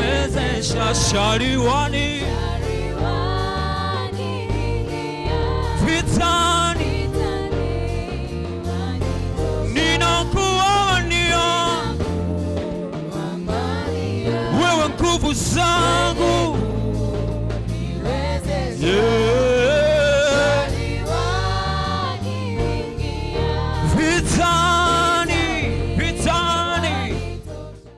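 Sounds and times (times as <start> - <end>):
low backing notes: 0.0 - 27.9
voices singing gospel: 0.0 - 27.9.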